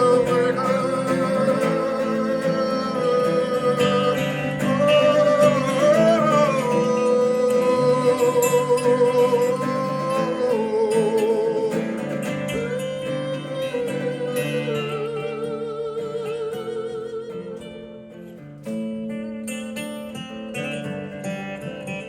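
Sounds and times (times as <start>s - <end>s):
plucked guitar: 0.0s - 22.0s.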